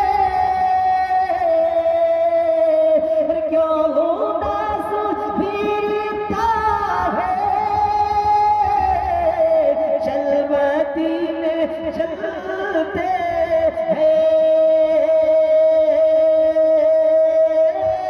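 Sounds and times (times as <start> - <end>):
man singing through loudspeakers: 0.0 - 18.0.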